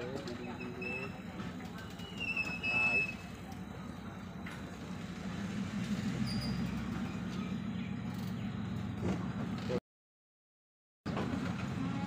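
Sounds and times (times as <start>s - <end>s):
diesel train engine running: 0.0s - 9.8s, 11.1s - 12.0s.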